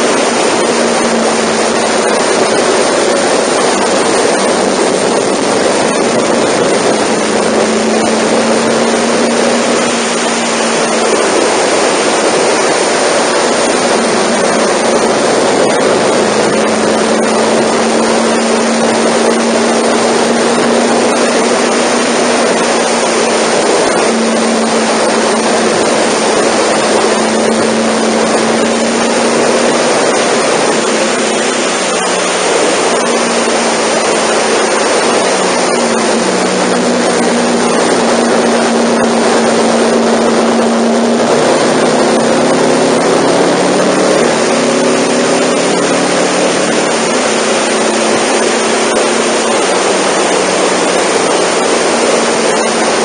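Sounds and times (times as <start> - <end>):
motorcycle engine running: 0.0 - 53.0
wind rushing on microphone: 0.0 - 53.0.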